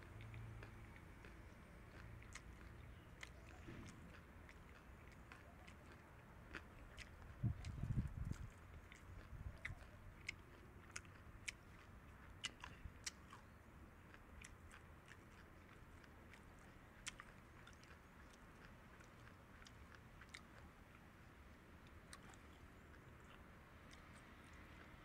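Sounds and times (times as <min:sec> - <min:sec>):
animals nibbling lettuce: 0:00.0 - 0:25.0.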